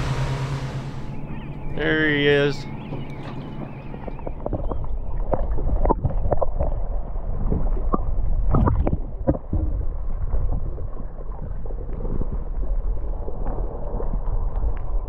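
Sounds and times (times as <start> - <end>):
steady low rumble: 0.0 - 15.0
underwater sloshing and gurgling: 0.0 - 15.0.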